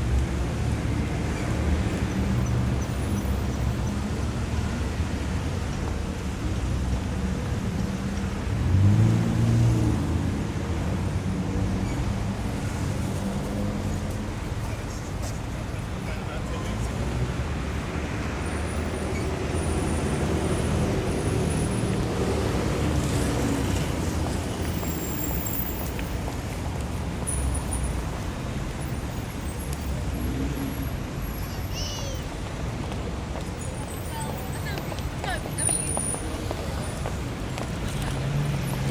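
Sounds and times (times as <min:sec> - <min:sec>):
car engines and tyre noise: 0:00.0 - 0:38.9
low rumble of passing vehicles: 0:00.0 - 0:38.9.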